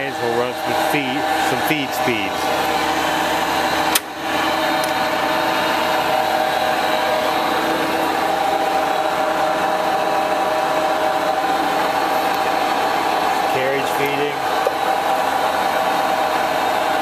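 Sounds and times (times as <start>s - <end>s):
lathe running with mechanical hum: 0.0s - 17.0s.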